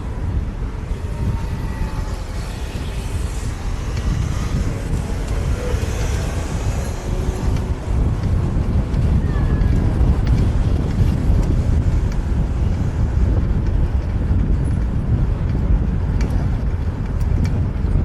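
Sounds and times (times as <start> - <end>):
city street traffic: 0.0 - 18.0
wind rumbling on microphone: 0.0 - 18.0.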